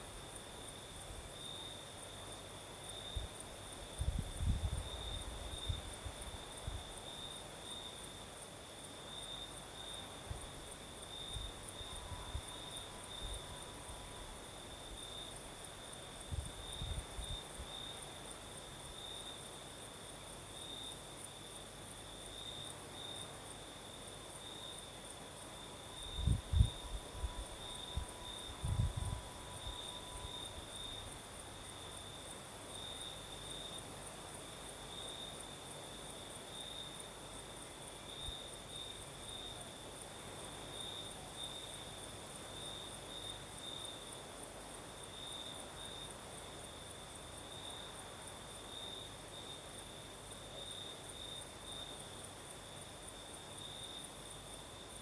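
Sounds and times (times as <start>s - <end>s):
crickets chirping: 0.0s - 55.0s
faint high insect trill: 0.0s - 55.0s.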